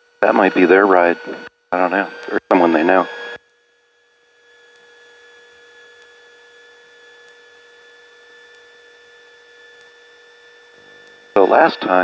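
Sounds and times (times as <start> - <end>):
electrical hum: 0.0 - 3.4, 5.8 - 12.0.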